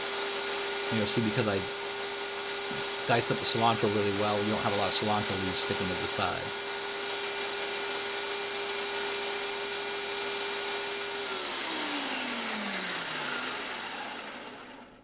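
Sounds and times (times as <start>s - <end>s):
food processor motor whirring: 0.0s - 15.0s.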